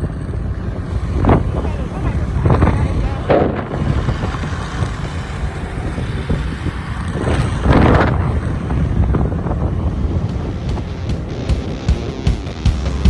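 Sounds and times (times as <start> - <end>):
motorbike engine rumble: 0.0 - 13.0
wind buffeting microphone: 0.0 - 13.0.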